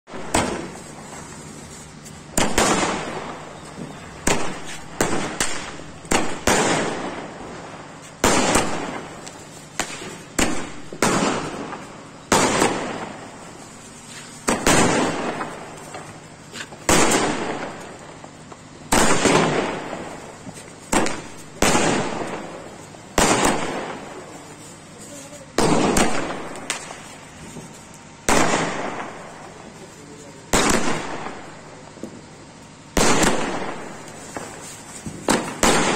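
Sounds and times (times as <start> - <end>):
fireworks bangs: 0.1 - 35.9.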